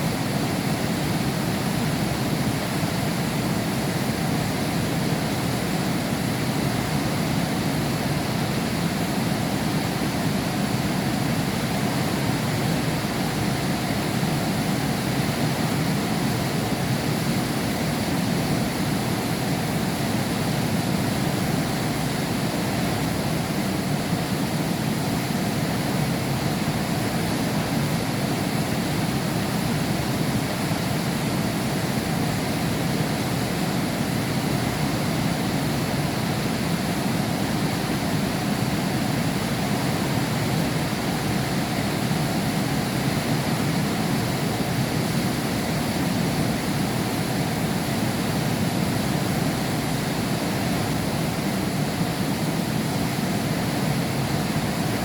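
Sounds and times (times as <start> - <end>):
heavy rain behind a window: 0.0 - 55.0.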